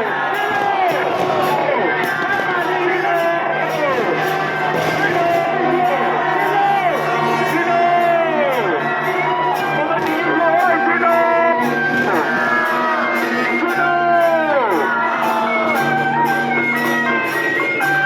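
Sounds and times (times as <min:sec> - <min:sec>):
loud music with steady beat: 0:00.0 - 0:18.0.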